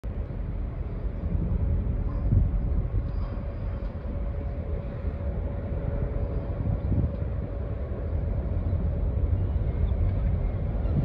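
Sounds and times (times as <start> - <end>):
faint constant hum: 0.0 - 11.0
ship engine rumble: 0.0 - 11.0.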